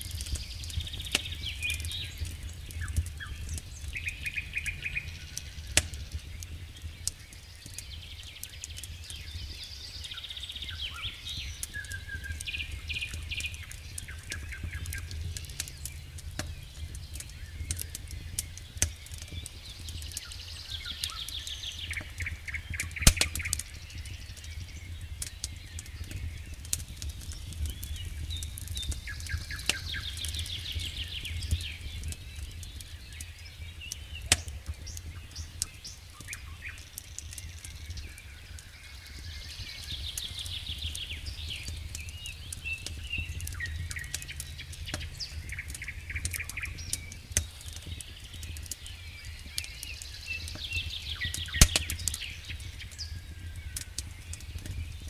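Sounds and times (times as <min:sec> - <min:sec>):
bird singing trills: 0:00.0 - 0:55.0
campfire crackling and popping: 0:00.0 - 0:55.0.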